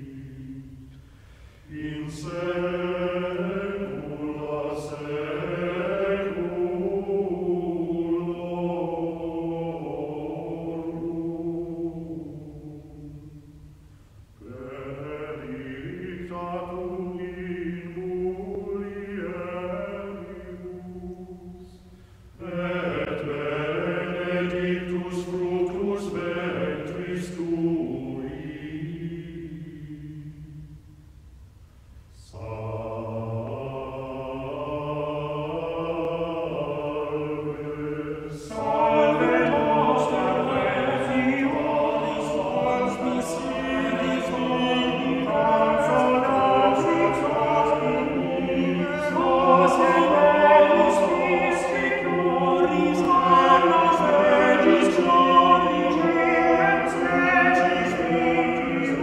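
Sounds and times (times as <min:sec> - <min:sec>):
slow chanting: 0:00.0 - 0:59.0.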